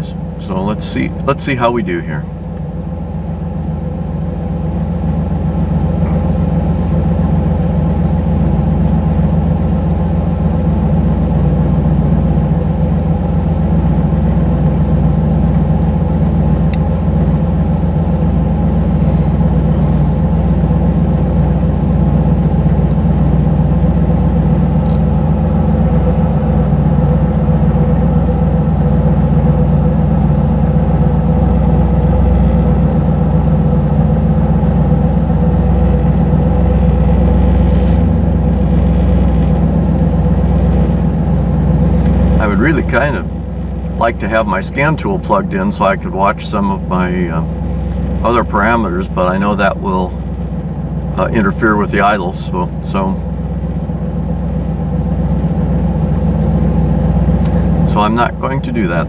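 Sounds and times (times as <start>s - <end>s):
car engine fast idling: 0.0s - 59.0s.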